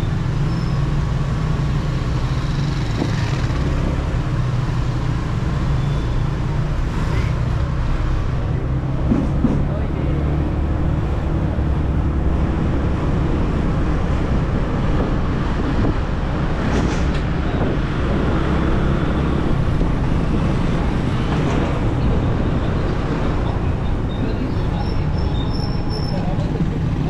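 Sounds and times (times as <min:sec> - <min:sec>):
tyre and street noise: 0:00.0 - 0:27.0.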